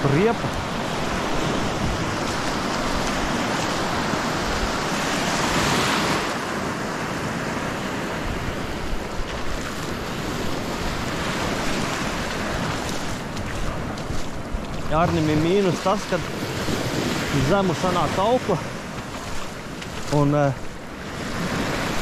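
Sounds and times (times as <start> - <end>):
sea surf washing over sand: 0.0 - 22.0.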